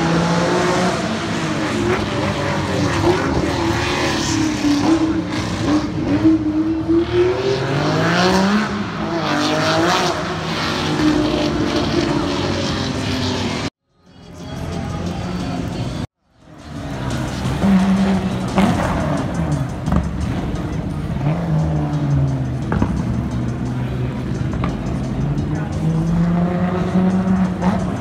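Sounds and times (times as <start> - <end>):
race car engines revving: 0.0 - 13.7, 14.5 - 28.0.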